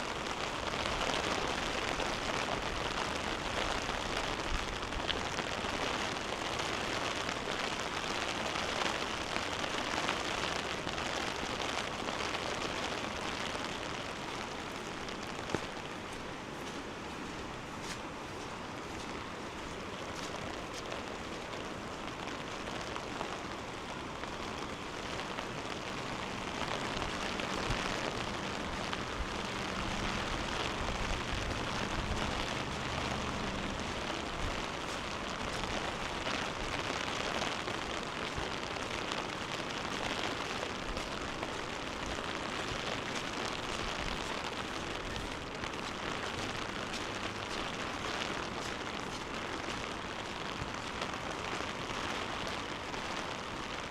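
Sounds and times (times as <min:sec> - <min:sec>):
rushing floodwater: 0:00.0 - 0:53.9.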